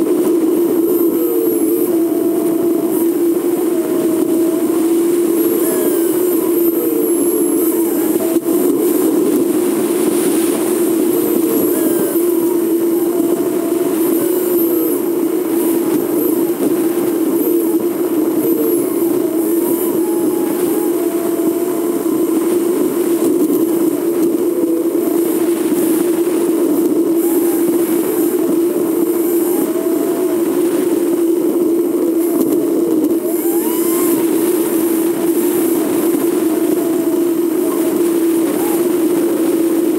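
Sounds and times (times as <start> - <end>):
faint high whistles: 0.0 - 39.9
faint rising and falling tones: 0.0 - 39.9.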